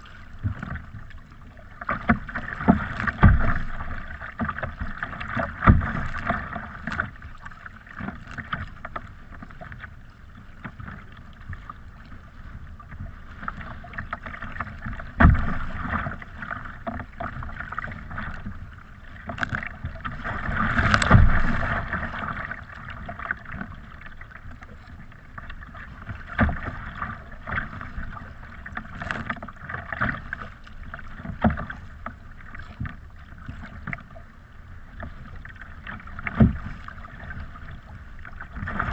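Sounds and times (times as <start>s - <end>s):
water slapping kayak hull: 0.0s - 38.9s
wave splashing over bow: 0.0s - 38.9s.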